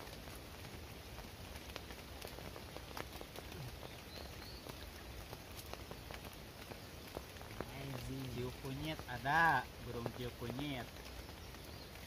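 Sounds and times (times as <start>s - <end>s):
rain on a tarp: 0.0s - 12.0s.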